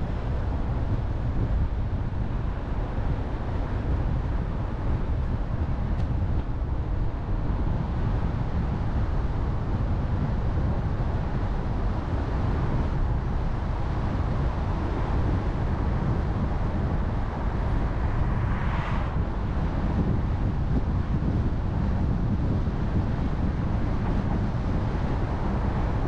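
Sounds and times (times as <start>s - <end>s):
car tyres and engine rumbling: 0.0s - 26.0s.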